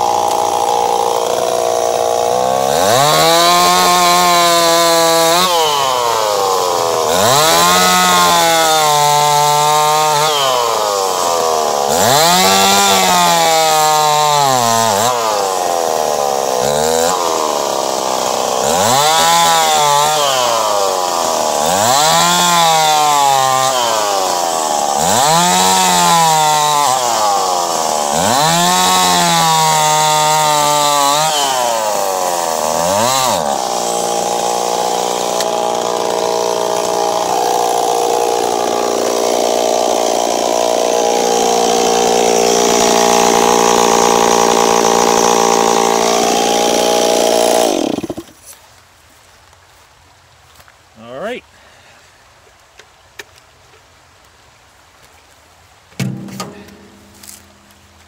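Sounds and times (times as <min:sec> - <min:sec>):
chainsaw sawing through log: 0:00.0 - 0:48.6, 0:56.0 - 0:58.0.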